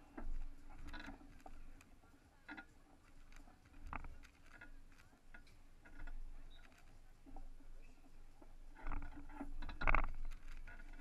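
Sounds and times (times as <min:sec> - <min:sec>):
soft ticks and knocks: 0:00.0 - 0:11.0.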